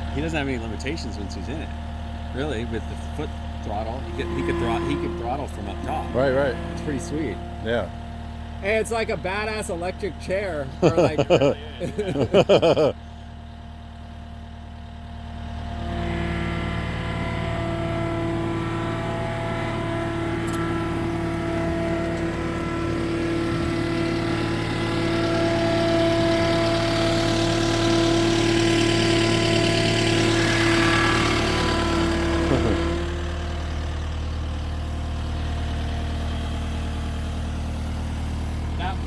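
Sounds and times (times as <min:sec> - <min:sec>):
loader engine revving: 0:00.0 - 0:39.0.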